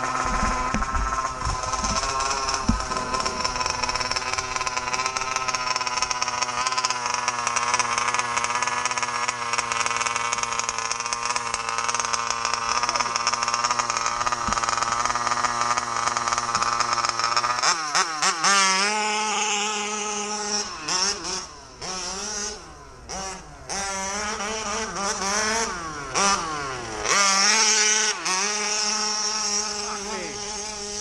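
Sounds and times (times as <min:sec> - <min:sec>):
small two-stroke engine revving: 0:00.0 - 0:31.0.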